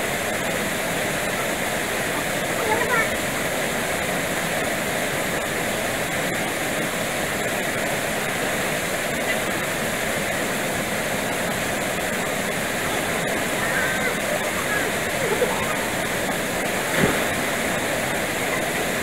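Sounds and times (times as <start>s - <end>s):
waterfall pouring into pool: 0.0s - 19.0s.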